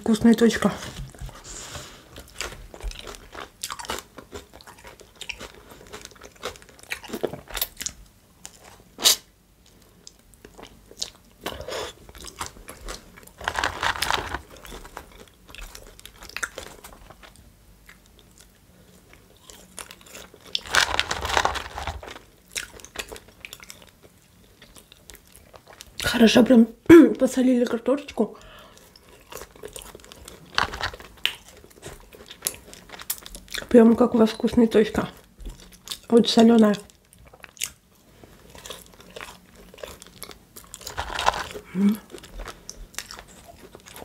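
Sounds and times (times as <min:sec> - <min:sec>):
person chewing and biting food: 0:01.0 - 0:25.9, 0:28.7 - 0:33.7, 0:37.0 - 0:44.0.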